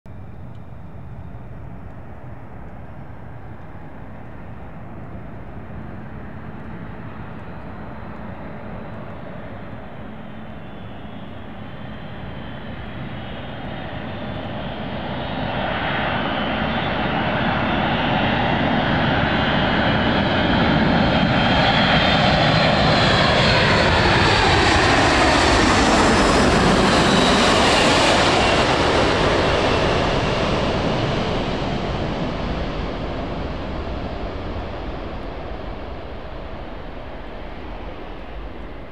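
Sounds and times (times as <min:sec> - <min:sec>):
jet aircraft flying overhead: 0:00.1 - 0:38.9.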